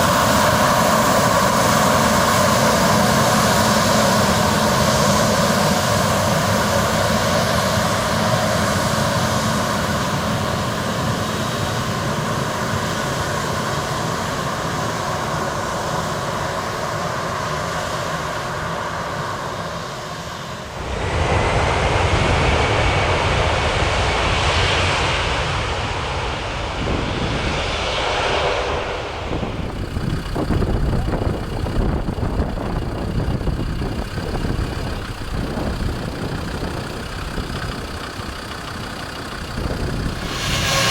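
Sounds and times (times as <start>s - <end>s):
airliner engines humming: 0.0s - 40.9s
rushing engine noise: 0.0s - 40.9s.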